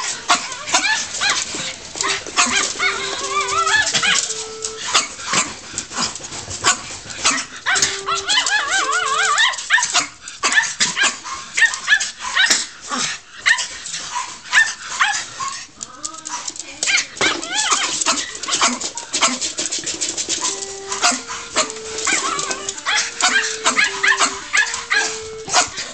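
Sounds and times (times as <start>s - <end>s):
dogs whining: 0.0s - 10.7s, 15.4s - 25.9s
small dogs barking and yipping: 0.0s - 25.9s.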